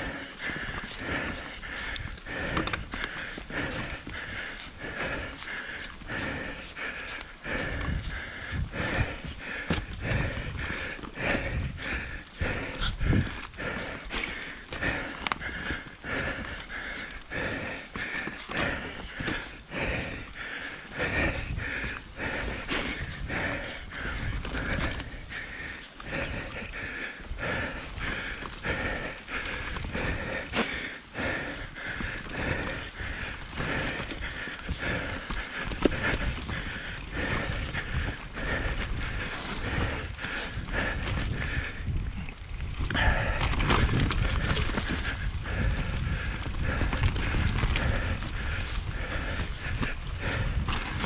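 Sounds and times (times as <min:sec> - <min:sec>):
bike rattling and knocking: 0:00.0 - 0:51.0
bike tyres rolling on dirt: 0:00.0 - 0:51.0
person breathing hard: 0:00.0 - 0:51.0
wind rumble on microphone: 0:00.0 - 0:51.0.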